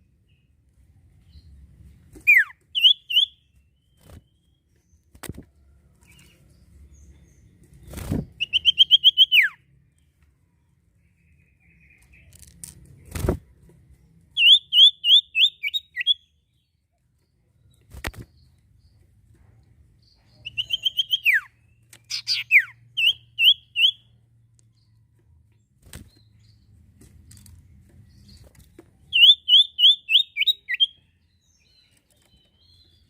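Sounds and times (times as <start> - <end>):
songbird singing: 1.2 - 13.0, 13.6 - 33.0.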